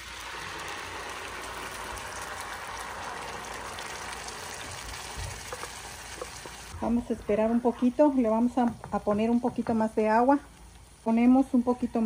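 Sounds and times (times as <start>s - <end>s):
salsa sizzling in frying pan: 0.0s - 12.0s.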